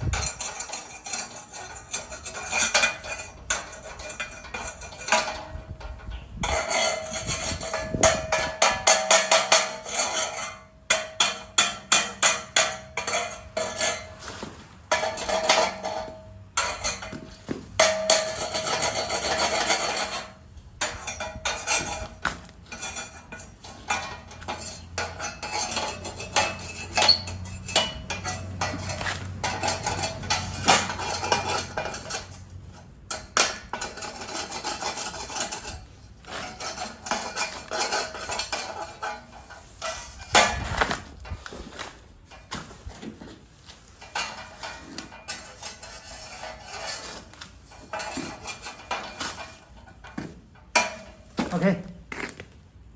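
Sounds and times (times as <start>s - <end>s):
metal tools scraping and clinking: 0.0s - 52.4s.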